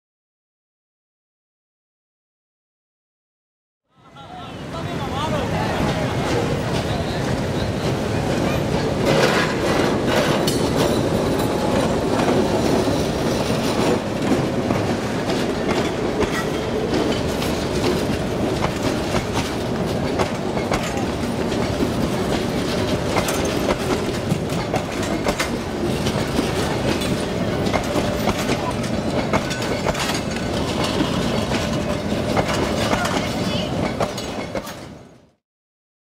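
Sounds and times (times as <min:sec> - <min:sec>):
train rumble: 0:04.2 - 0:35.4
train wheels clattering: 0:05.8 - 0:35.1.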